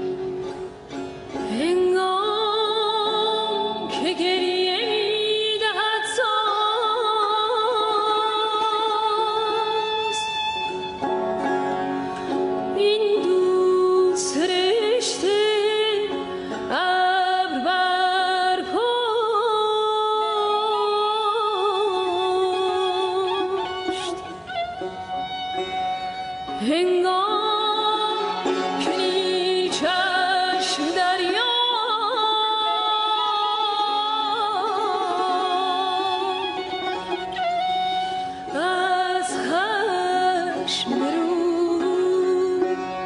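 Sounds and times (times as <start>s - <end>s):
plucked strings: 0.0s - 43.0s
woman singing: 1.4s - 11.0s, 12.7s - 43.0s.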